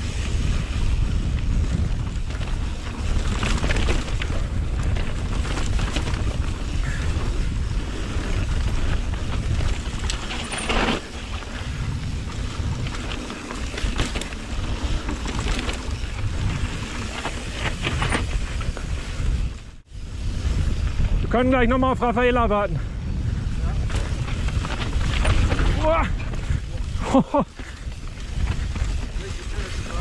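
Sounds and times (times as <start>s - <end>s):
bike rattling over rocks: 0.0s - 21.3s, 23.7s - 30.0s
wind rumble on microphone: 0.0s - 30.0s.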